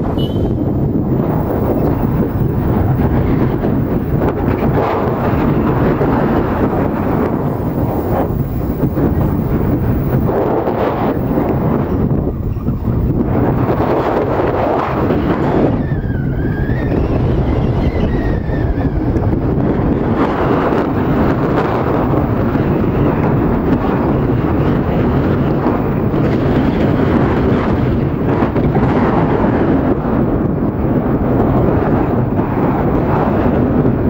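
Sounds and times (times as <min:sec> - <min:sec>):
moving vehicle rumble: 0:00.0 - 0:34.0
wind buffeting microphone: 0:00.0 - 0:34.0.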